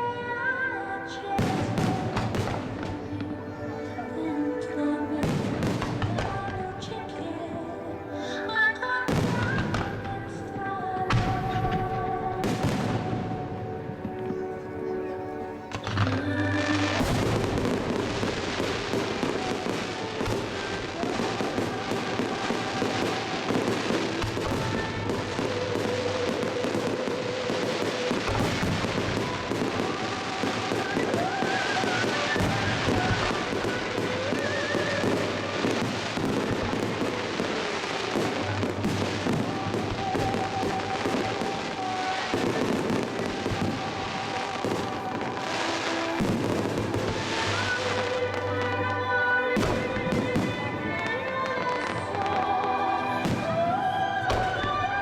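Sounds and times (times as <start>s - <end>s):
fireworks bursting and crackling: 0.0s - 4.1s, 4.7s - 55.0s
music playing: 0.0s - 55.0s.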